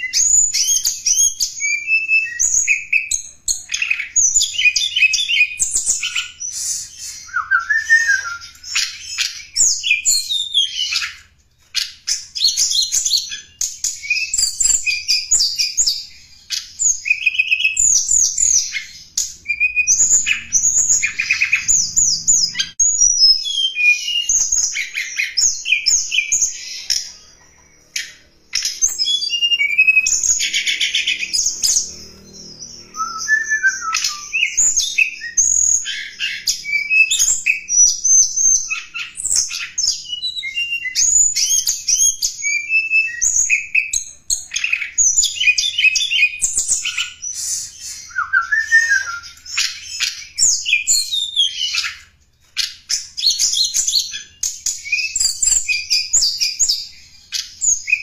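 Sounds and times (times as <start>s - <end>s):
songbird chirping and trilling: 0.0s - 58.0s.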